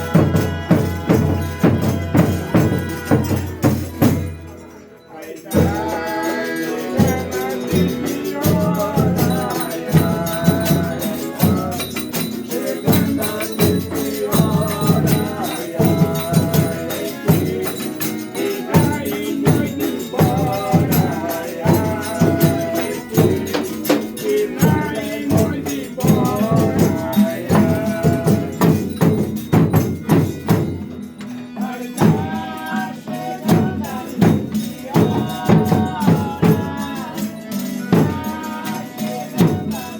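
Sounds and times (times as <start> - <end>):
group singing devotional song: 0.0 - 39.9
tambourines and drum beating: 0.0 - 39.9.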